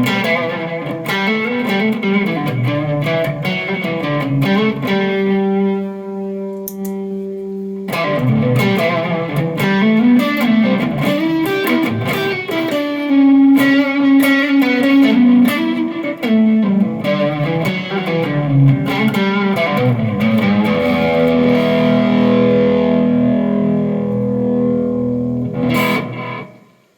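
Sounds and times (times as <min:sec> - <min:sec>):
electric guitar playing: 0:00.0 - 0:26.9.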